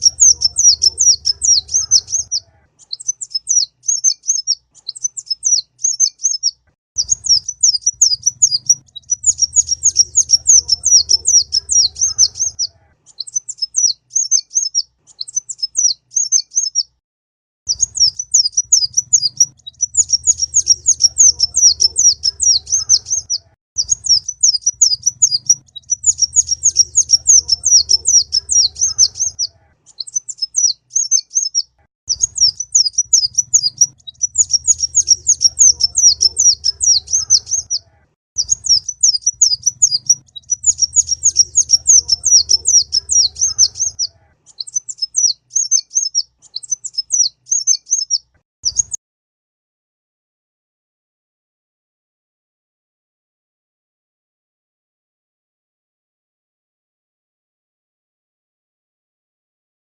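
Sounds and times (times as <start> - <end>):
bird chittering song: 0.0 - 17.0, 17.7 - 49.0.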